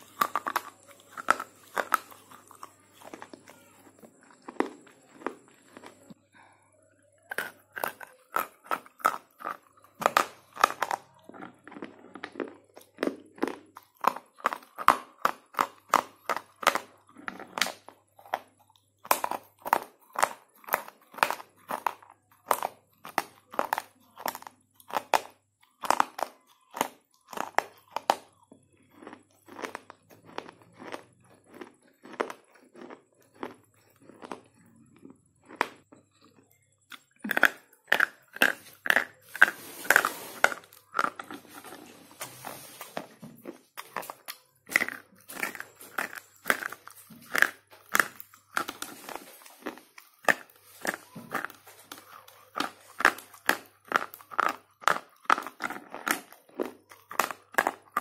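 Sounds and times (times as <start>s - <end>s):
crisp chewing crunches: 0.0s - 6.5s, 7.2s - 58.0s.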